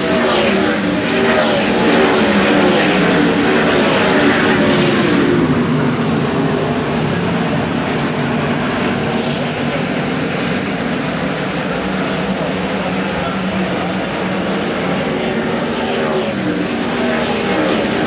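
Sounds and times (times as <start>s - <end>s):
race car passing by: 0.0s - 9.7s, 12.4s - 18.0s
race car engines droning: 0.0s - 18.0s.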